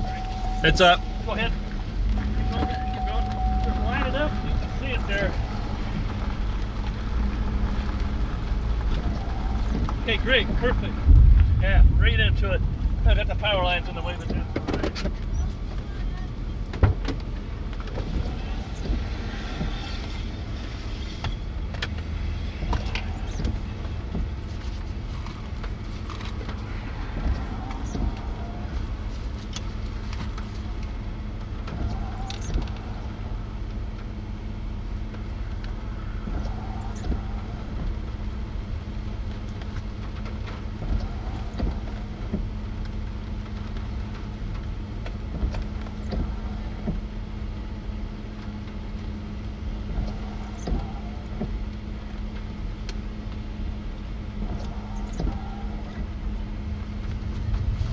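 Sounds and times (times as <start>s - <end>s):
steady hum: 0.0s - 57.9s
vehicle engine idling: 0.0s - 57.9s.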